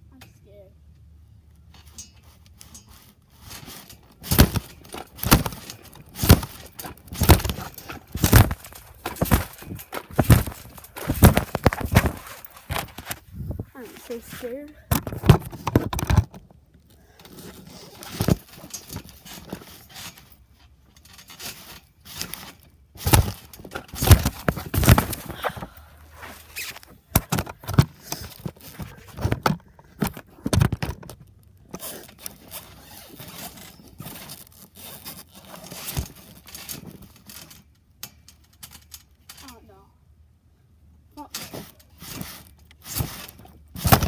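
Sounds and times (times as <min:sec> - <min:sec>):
trampoline thumps and scraping: 0:01.7 - 0:39.9, 0:41.1 - 0:44.0.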